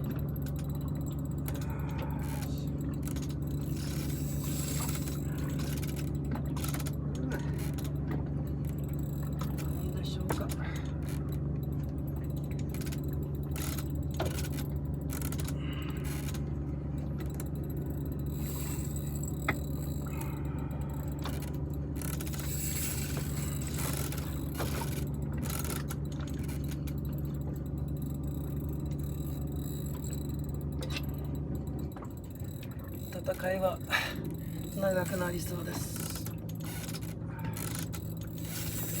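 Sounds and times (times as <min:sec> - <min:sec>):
outboard motor idling: 0:00.0 - 0:39.0
fishing reel clicks and scrapes: 0:00.2 - 0:11.4, 0:12.2 - 0:16.5, 0:17.2 - 0:39.0.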